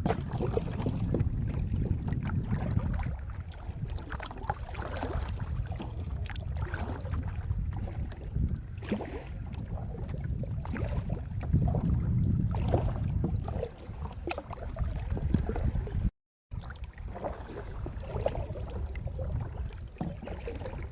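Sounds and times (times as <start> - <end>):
paddle splashes: 0.0 - 20.9
water sloshing: 0.0 - 20.9.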